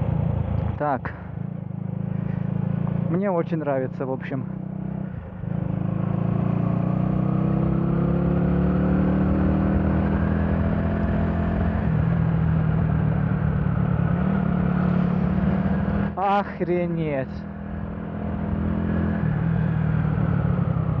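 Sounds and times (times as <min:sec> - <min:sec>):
motorcycle engine pulling away: 0:01.6 - 0:03.2, 0:04.4 - 0:16.2, 0:17.4 - 0:21.0.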